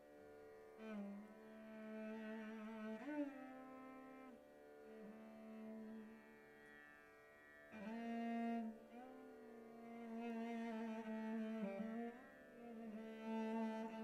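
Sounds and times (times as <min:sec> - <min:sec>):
solo cello bowing slow melody: 0:00.8 - 0:06.2, 0:07.7 - 0:14.0.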